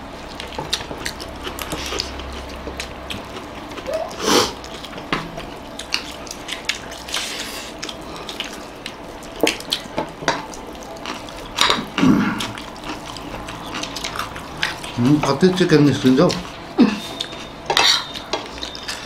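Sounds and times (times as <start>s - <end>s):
wet chewing and mouth smacks: 0.2s - 19.0s.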